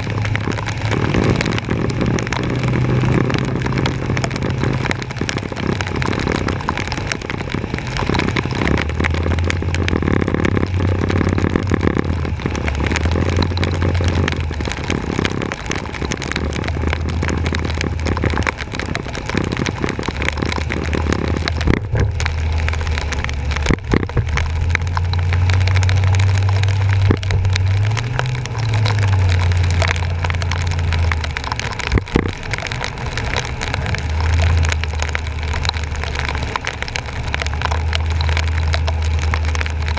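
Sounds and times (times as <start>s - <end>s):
truck engine drone: 0.0s - 39.9s
water and tyres hissing: 0.0s - 39.9s.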